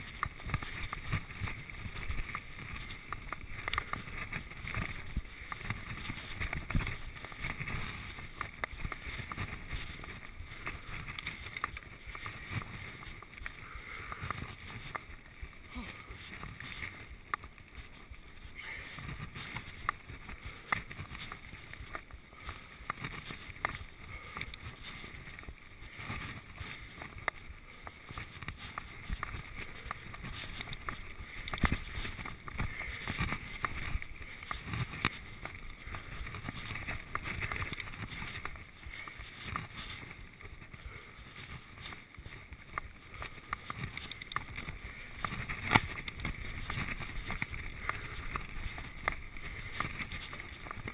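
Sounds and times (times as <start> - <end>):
tyres rumbling on dirt trail: 0.0 - 50.9
wind on camera: 0.0 - 50.9.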